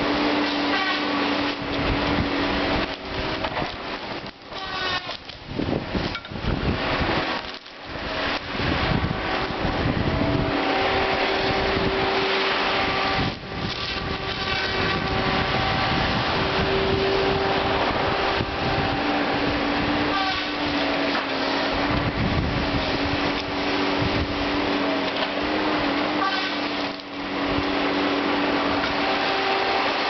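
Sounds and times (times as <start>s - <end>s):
diesel engine running hard: 0.0s - 30.0s
steady mechanical whine: 0.0s - 30.0s.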